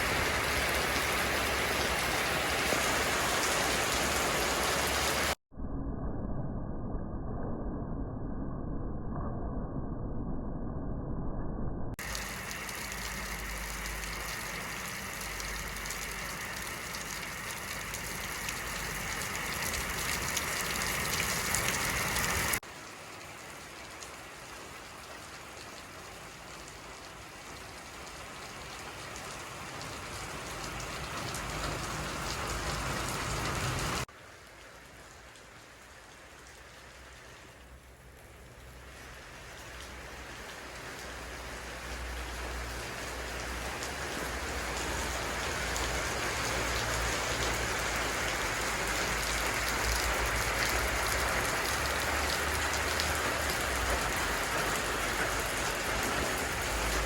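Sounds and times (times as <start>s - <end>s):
steady rain falling: 0.0s - 5.4s, 12.0s - 57.0s.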